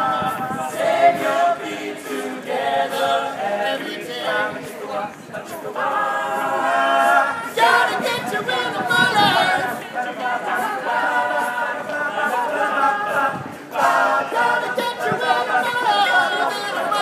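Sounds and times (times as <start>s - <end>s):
male choir singing a cappella: 0.0s - 17.0s.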